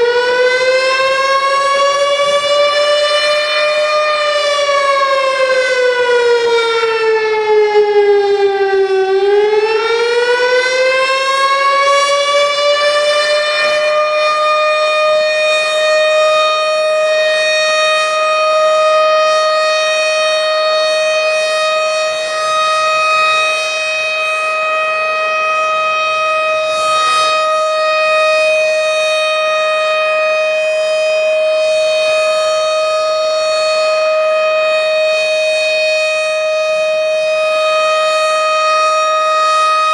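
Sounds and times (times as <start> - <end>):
warning siren: 0.0 - 39.9.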